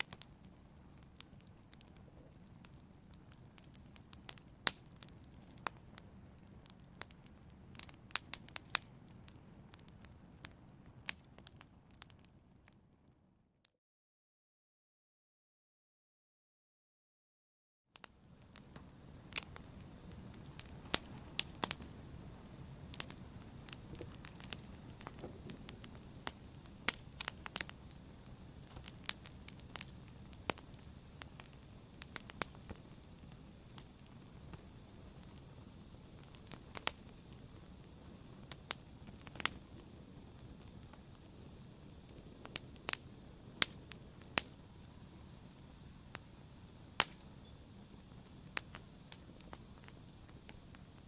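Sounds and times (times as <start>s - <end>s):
fire crackling and popping: 0.0s - 13.1s, 18.0s - 51.0s.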